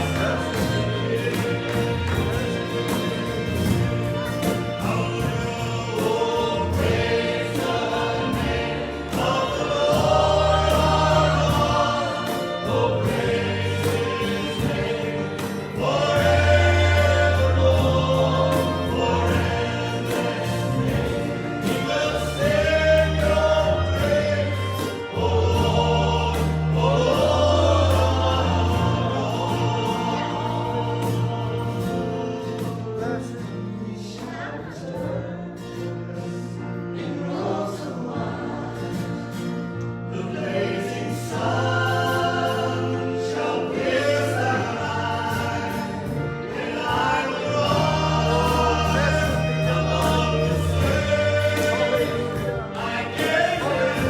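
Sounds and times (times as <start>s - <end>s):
band with bass and beat: 0.0s - 35.8s, 41.3s - 54.0s
people singing a hymn: 0.0s - 54.0s.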